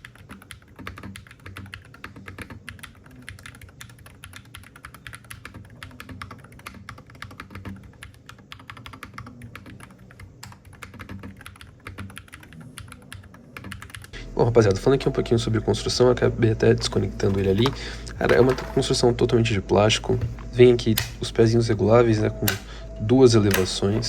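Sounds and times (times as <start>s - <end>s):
fast keyboard typing: 0.0s - 24.0s.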